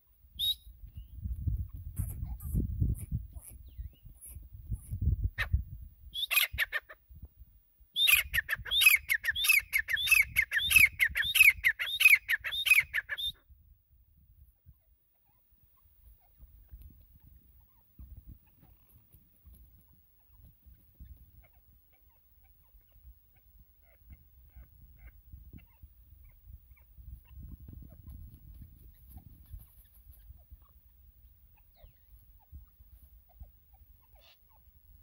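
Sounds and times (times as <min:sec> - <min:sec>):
francolin calling: 0:00.4 - 0:07.0, 0:07.9 - 0:13.4, 0:15.1 - 0:35.0.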